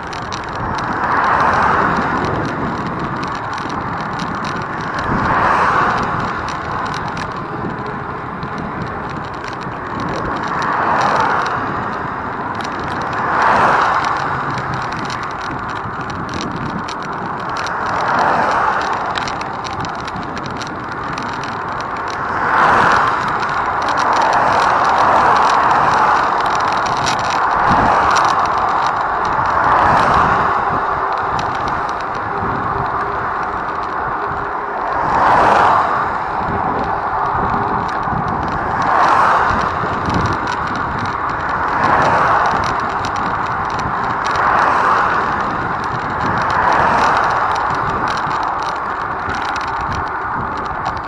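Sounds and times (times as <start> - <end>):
road traffic rush: 0.0 - 51.0.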